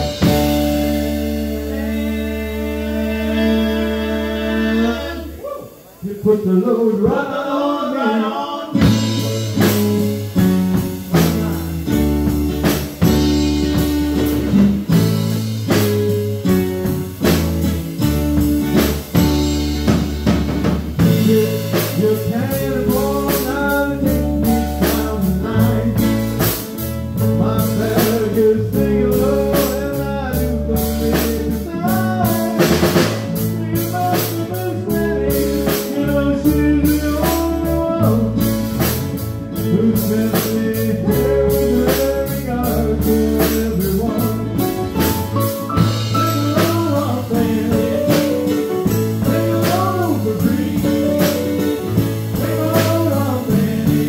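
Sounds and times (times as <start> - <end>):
rock band playing: 0.0 - 7.0, 8.7 - 54.0
drums steady beat: 0.0 - 7.2, 8.7 - 54.0
person singing: 0.0 - 12.1, 21.0 - 38.9, 39.6 - 54.0.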